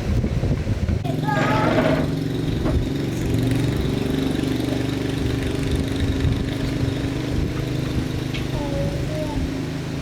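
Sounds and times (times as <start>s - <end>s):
small engine idling: 1.0s - 10.0s.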